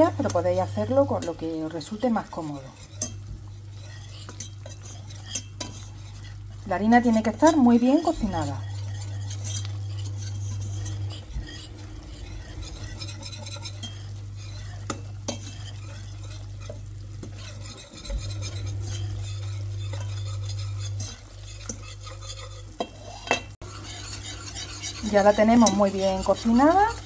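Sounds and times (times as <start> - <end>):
onion sizzling in oil: 0.0 - 27.0
whisk scraping and tapping pan: 0.0 - 27.0.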